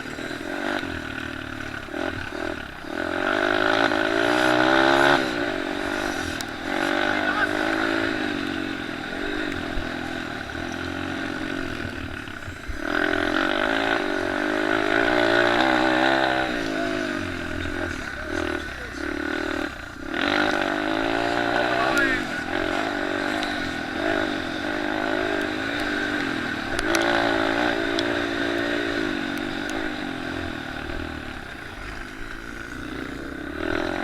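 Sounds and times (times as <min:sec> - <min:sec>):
motocross bike engines racing: 0:00.0 - 0:34.0.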